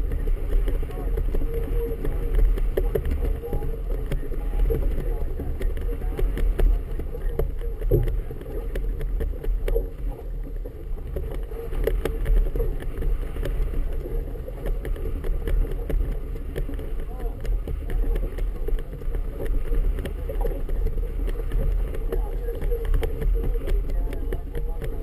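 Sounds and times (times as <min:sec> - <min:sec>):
water slapping a boat hull: 0:00.0 - 0:25.0
wind buffeting the camera: 0:00.0 - 0:25.0.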